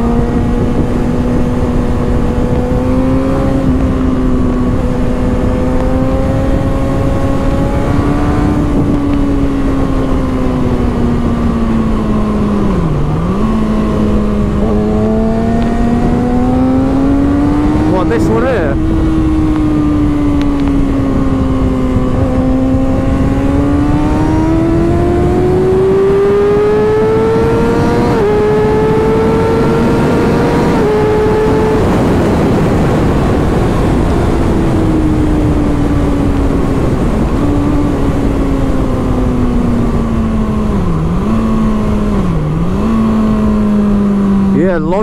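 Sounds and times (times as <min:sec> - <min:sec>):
motorcycle engine revving: 0:00.0 - 0:45.0
wind rush: 0:00.0 - 0:45.0.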